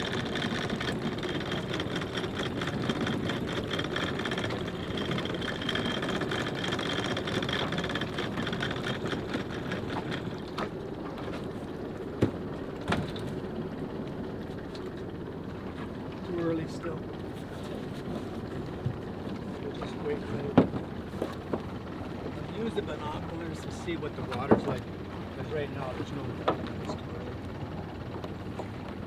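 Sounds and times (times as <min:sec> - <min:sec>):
boat engine clattering: 0:00.0 - 0:29.0
water noise: 0:00.0 - 0:29.0.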